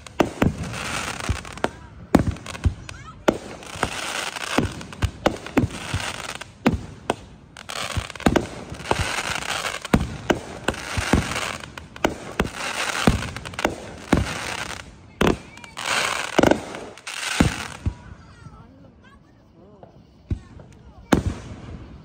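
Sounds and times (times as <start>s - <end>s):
fireworks bangs: 0.0s - 22.0s
fireworks crackling hiss: 0.0s - 22.0s.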